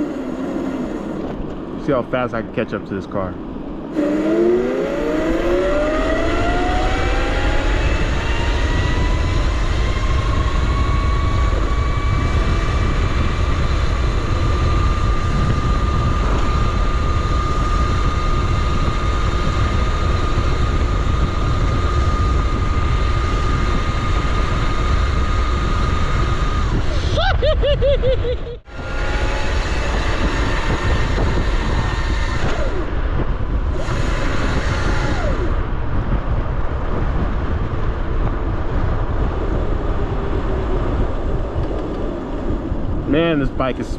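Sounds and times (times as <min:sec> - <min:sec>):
electric motorcycle motor whining: 0:00.0 - 0:01.8, 0:03.8 - 0:27.0, 0:28.6 - 0:43.3
wind rumble on microphone: 0:00.0 - 0:43.9.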